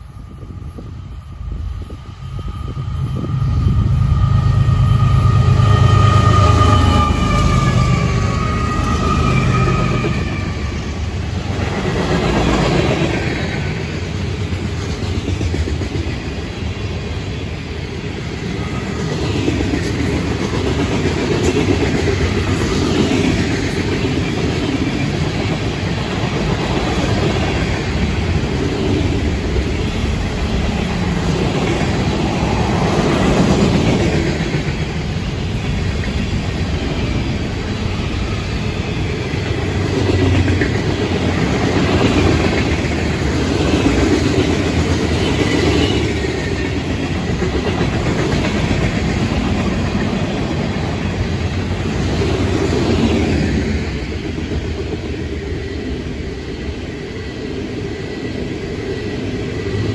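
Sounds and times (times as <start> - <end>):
freight cars rumbling on rail: 0.0 - 59.9.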